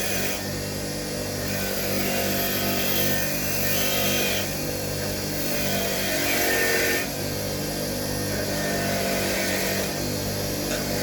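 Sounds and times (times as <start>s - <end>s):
small electric power tool running: 0.0s - 11.0s.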